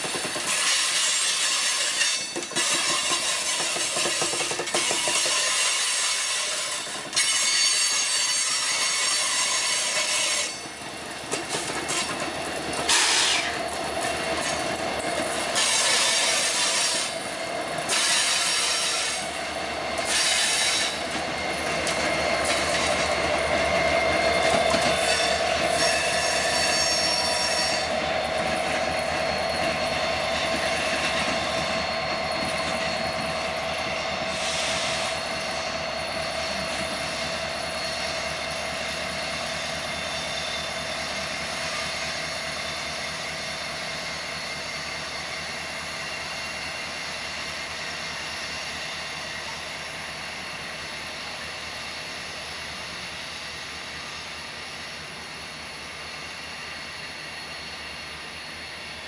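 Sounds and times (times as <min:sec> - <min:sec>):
train wheel noise: 0:00.0 - 0:59.0
locomotive engine drone: 0:09.8 - 0:59.0.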